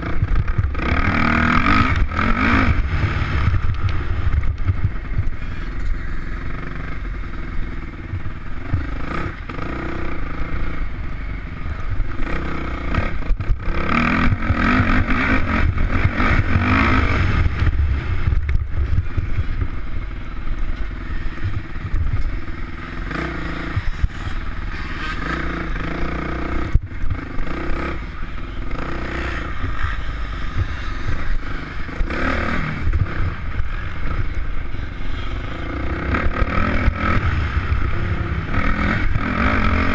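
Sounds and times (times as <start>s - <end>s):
heavy low rumble: 0.0s - 39.9s
motorcycle engine revving: 0.0s - 39.9s.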